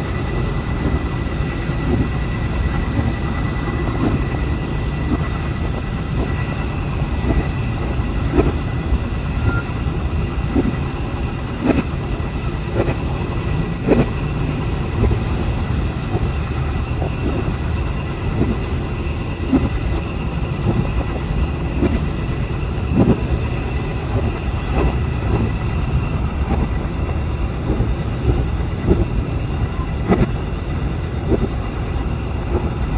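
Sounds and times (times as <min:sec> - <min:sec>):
train rumbling on rails: 0:00.0 - 0:32.9.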